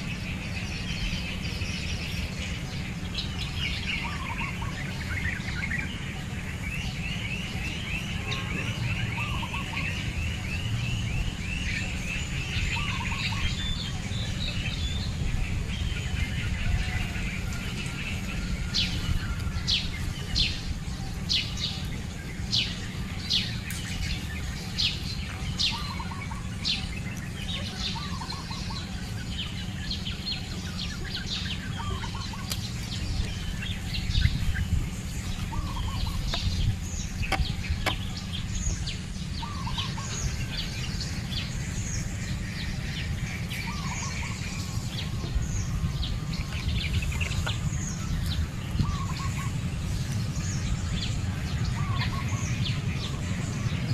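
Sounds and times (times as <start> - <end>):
low rumble: 0.0 - 53.9
small birds chirping: 0.0 - 53.9.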